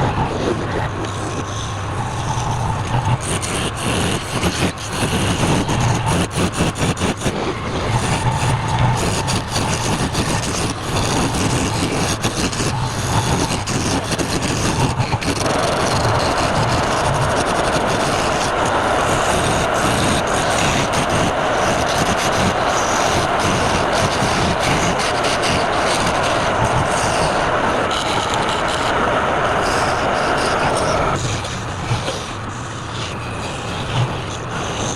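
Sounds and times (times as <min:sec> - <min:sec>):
lathe motor hum: 0:00.0 - 0:34.9
lathe tool scraping wood: 0:01.5 - 0:34.9.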